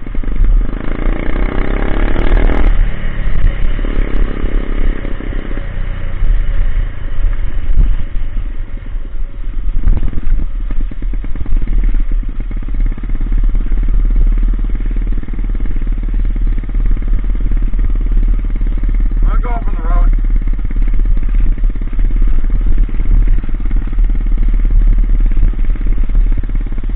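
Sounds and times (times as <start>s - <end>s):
motorbike engine running: 0.0s - 26.9s.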